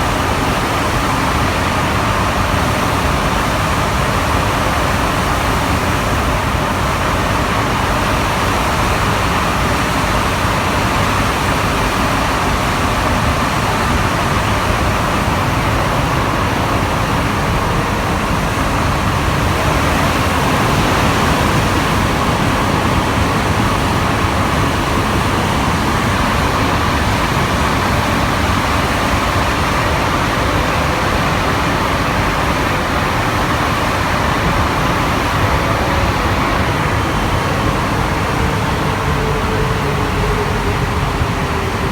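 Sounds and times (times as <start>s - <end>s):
train rolling noise: 0.0s - 41.9s.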